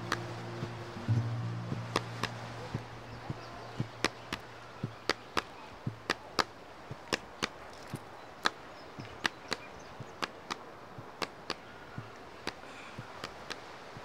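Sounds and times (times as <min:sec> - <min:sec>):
sharp rhythmic knocks: 0:00.0 - 0:14.0.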